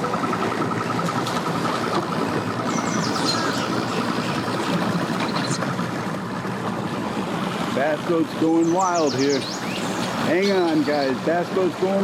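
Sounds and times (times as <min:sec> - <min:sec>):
boat and vehicle engines idling: 0:00.0 - 0:12.0.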